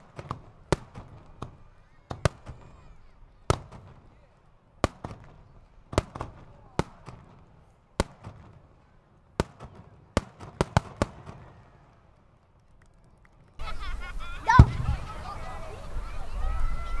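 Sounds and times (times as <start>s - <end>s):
fireworks bursting with bangs: 0.0s - 15.5s.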